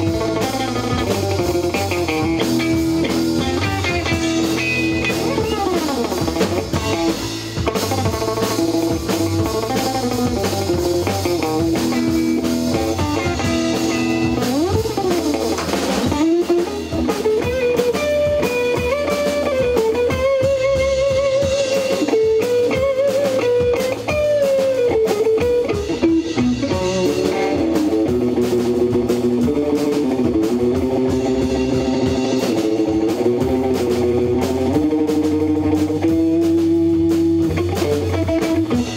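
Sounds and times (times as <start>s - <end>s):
electric guitar lead melody: 0.0s - 38.9s
surf rock band playing: 0.0s - 38.9s.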